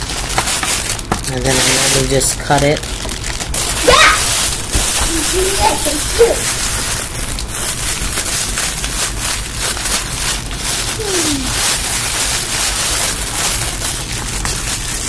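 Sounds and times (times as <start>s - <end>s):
plastic wrap crackling: 0.0s - 15.0s.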